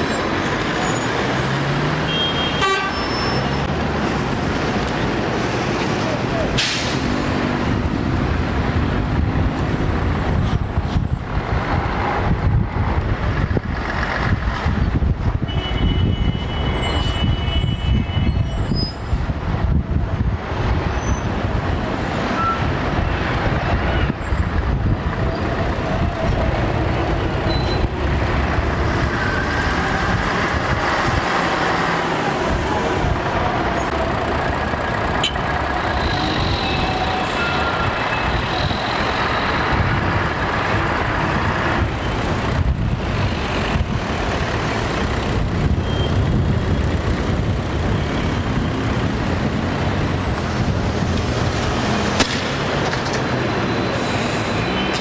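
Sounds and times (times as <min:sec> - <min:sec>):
traffic engine and tyre rumble: 0:00.0 - 0:55.0.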